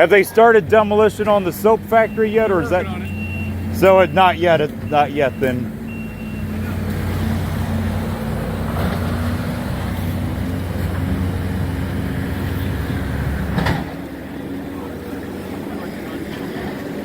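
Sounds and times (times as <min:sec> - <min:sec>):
diesel excavator engine running: 0:00.0 - 0:17.0.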